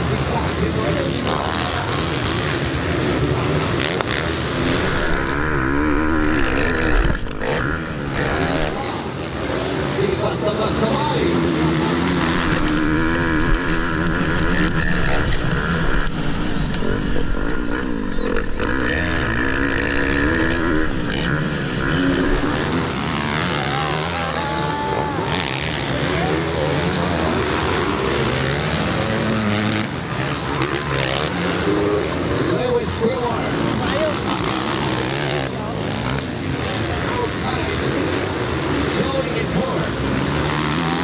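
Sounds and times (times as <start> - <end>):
bikes racing past: 0.0 - 41.0
motocross engines revving: 0.0 - 41.0.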